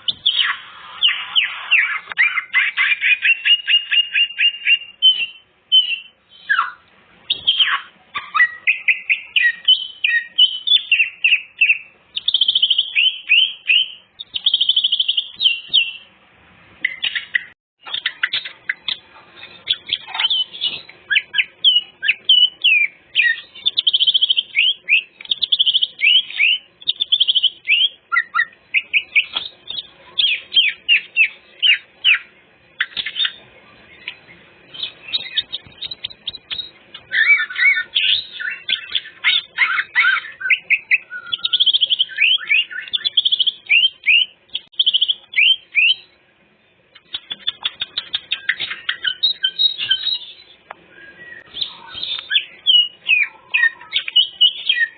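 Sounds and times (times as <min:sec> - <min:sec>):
bird singing chirps and whistles: 0:00.0 - 0:16.1, 0:16.8 - 0:46.2, 0:47.0 - 0:54.9.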